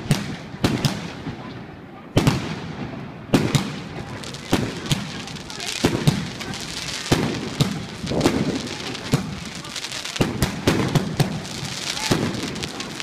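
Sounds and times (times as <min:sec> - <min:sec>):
firecrackers crackling: 0:00.0 - 0:13.0
fireworks bangs: 0:00.0 - 0:13.0.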